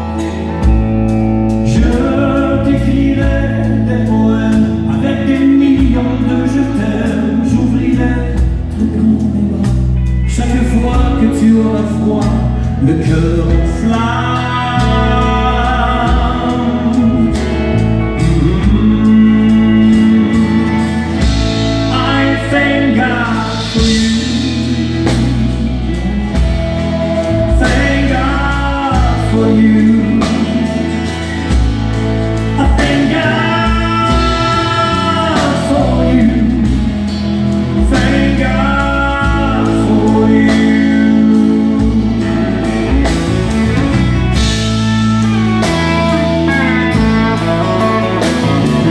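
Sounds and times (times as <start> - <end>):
acoustic guitar: 0.0 - 48.9
bass guitar: 0.0 - 48.9
drums: 0.0 - 48.9
electric guitars: 0.0 - 48.9
man singing: 0.0 - 48.9.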